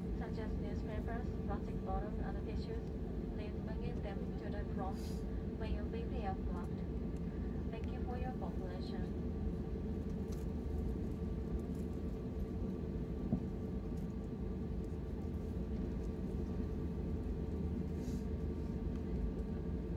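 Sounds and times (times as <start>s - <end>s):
airplane cabin engine rumble: 0.0s - 19.9s.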